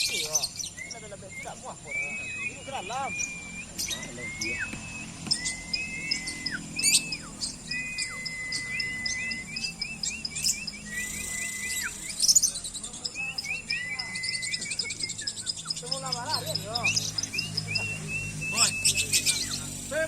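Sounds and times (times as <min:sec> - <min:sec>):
caged birds chirping: 0:00.0 - 0:20.0
high fast bird ticking: 0:00.0 - 0:20.0
long whistled bird notes: 0:00.0 - 0:20.0.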